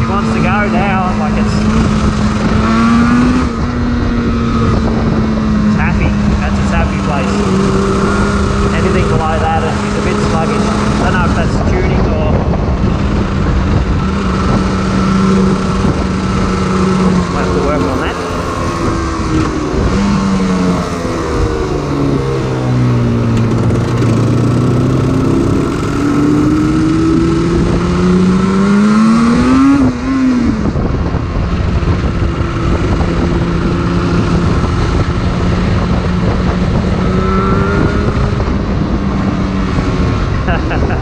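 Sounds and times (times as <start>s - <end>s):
two-stroke motorcycle engine revving: 0.0s - 41.0s
wind rush on microphone: 0.0s - 41.0s.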